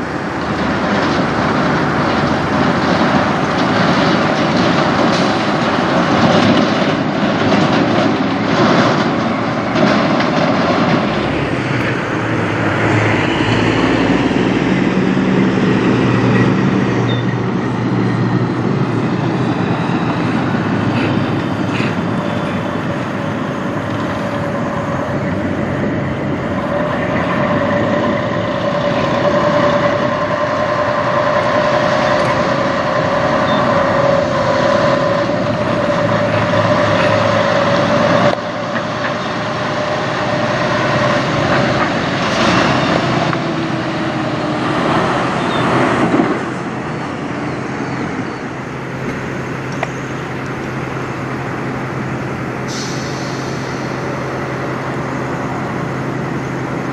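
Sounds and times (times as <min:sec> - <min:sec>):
diesel truck engine running: 0:00.0 - 0:56.9
road traffic: 0:00.0 - 0:56.9
steady whine: 0:00.0 - 0:56.9
tractor-trailer passing: 0:00.0 - 0:56.9.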